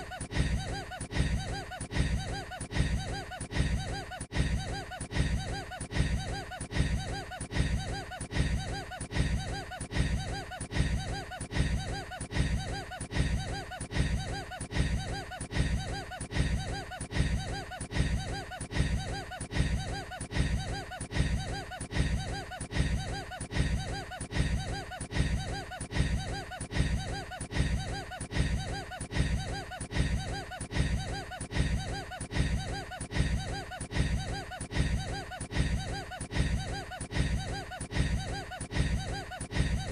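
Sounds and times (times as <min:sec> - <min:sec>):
man laughing: 0:00.0 - 0:39.9.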